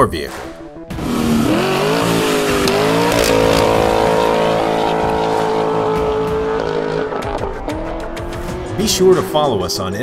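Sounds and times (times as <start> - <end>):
car engine revving: 0.9 - 10.0.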